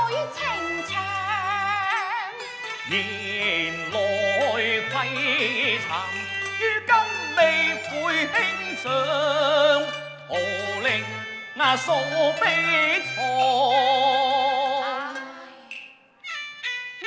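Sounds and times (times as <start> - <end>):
opera melody with wide vibrato: 0.0 - 17.0.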